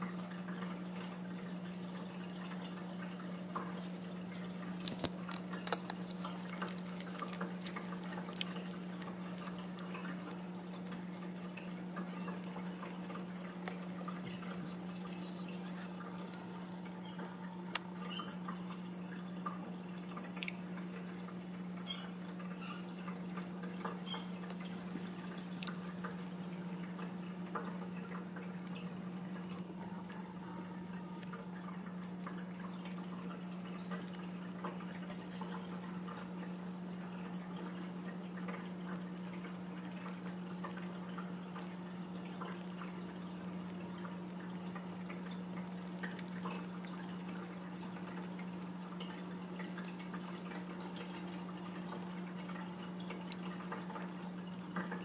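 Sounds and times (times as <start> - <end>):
steady low hum: 0.0 - 55.0
kittens suckling wet clicks: 0.4 - 16.6, 19.5 - 30.2, 30.9 - 54.1.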